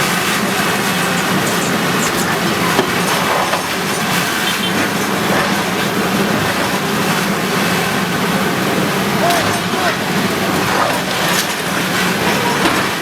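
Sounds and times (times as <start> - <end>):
bulldozer engine: 0.0 - 13.0
rattling and clatter: 0.0 - 13.0.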